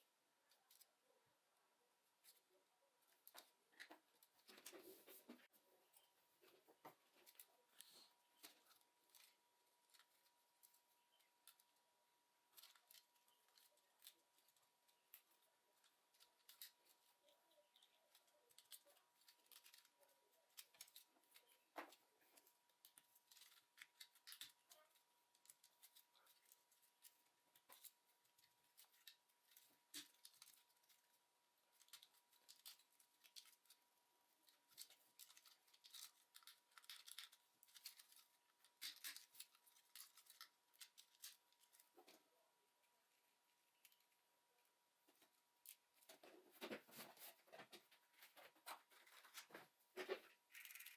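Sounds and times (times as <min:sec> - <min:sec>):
small parts clicking and scraping: 0:03.1 - 0:42.3, 0:45.1 - 0:50.9.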